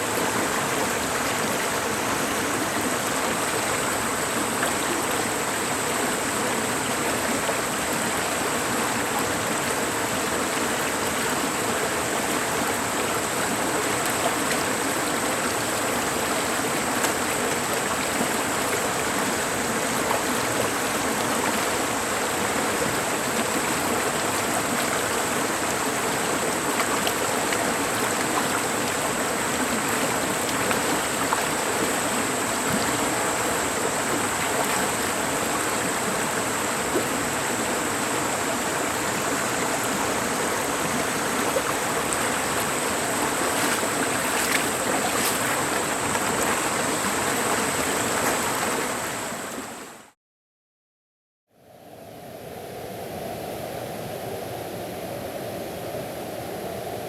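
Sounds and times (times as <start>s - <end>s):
stream rushing over rocks: 0.0s - 50.1s.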